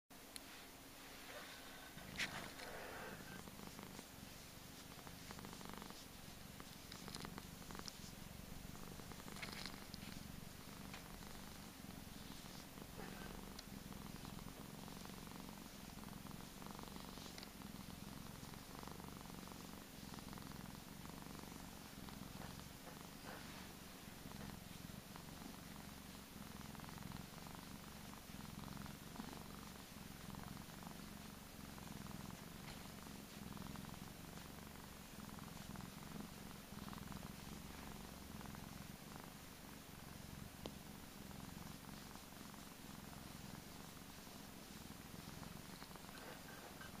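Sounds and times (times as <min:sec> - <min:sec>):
cat purring: 0:00.2 - 0:47.0.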